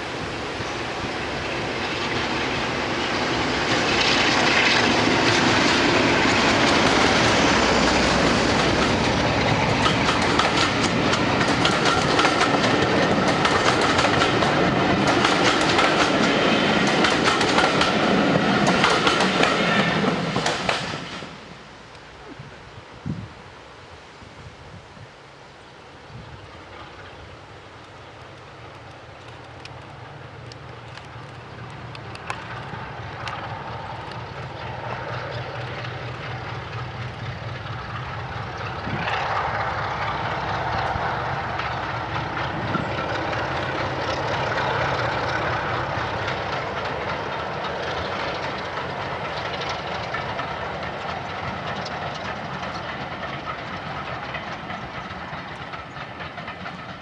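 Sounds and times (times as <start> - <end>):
train wheels clattering on rails: 0.0 - 21.5, 26.6 - 57.0
diesel locomotive engine hum: 0.0 - 24.1, 24.7 - 57.0.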